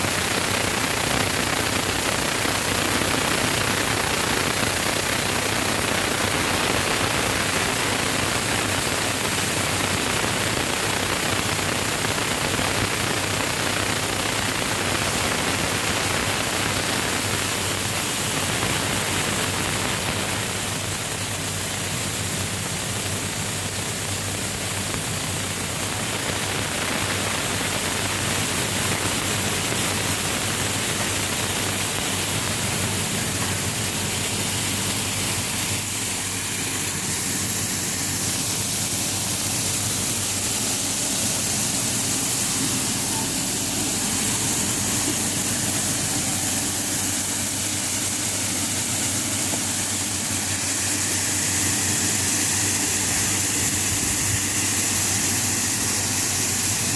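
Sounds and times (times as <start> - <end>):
grain rushing through machine: 0.0 - 56.9.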